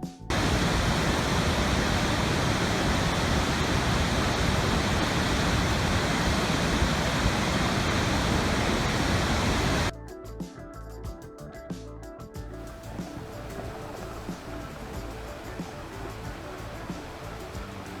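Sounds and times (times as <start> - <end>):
loud rushing water: 0.3 - 9.9, 12.7 - 18.0.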